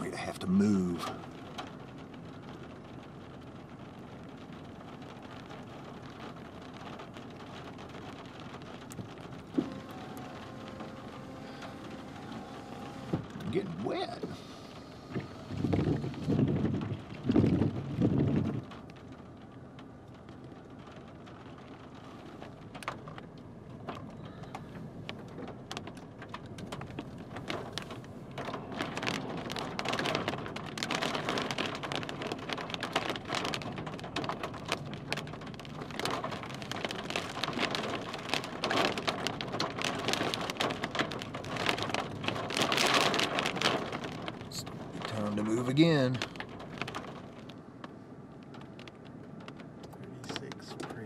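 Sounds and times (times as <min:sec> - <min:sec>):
raindrops ticking on windshield: 0:00.0 - 0:51.0.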